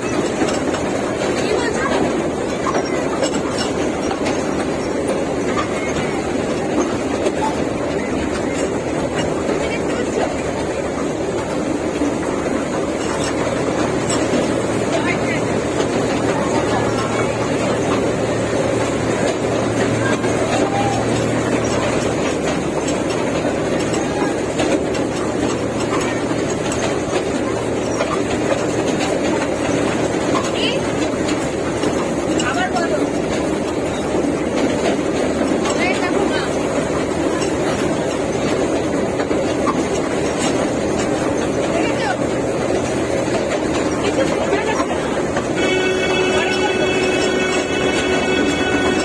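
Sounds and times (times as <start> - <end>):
toy train rolling on track: 0.0 - 49.0.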